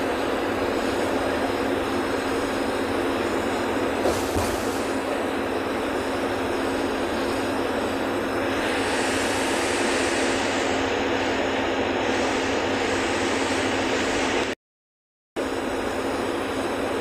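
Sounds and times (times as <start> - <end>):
constant low hum: 0.0 - 14.5
bus engine and tyre noise: 0.0 - 14.6, 15.4 - 17.0.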